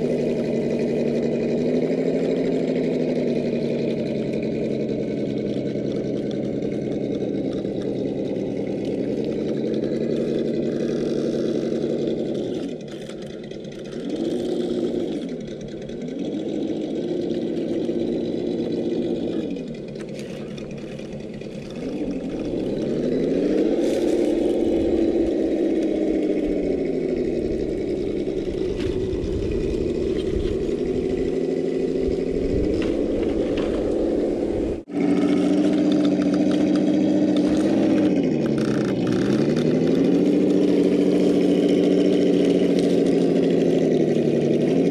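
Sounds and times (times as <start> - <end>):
electric motor whining: 0.0 - 44.9.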